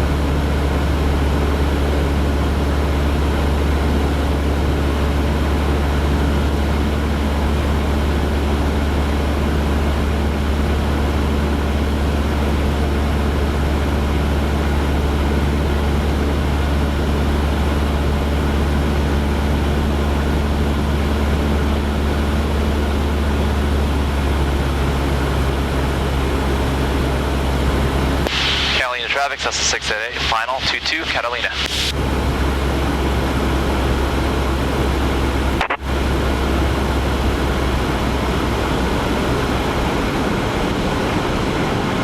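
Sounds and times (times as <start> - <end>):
aircraft engine and propeller droning: 0.0 - 42.0.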